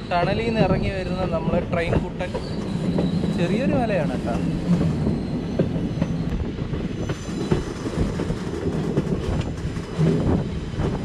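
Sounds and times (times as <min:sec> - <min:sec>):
train coaches rumbling: 0:00.0 - 0:11.0.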